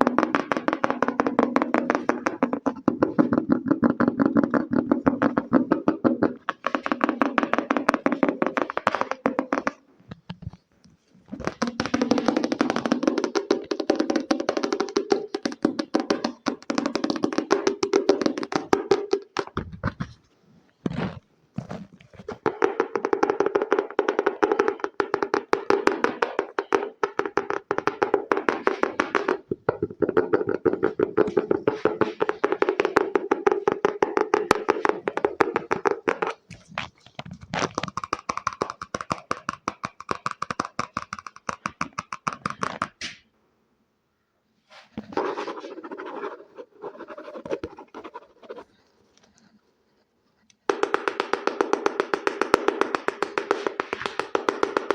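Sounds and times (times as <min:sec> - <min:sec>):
fast tapping on hard object: 0:00.0 - 0:10.7, 0:11.3 - 0:20.2, 0:22.2 - 0:43.1, 0:45.0 - 0:48.7, 0:50.7 - 0:54.9.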